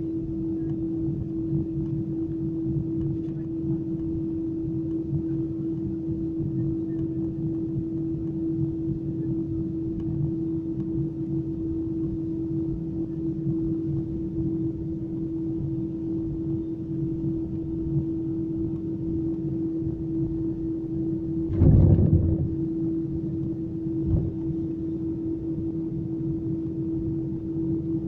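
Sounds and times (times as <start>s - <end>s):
jet engines heard in cabin: 0.0s - 28.0s.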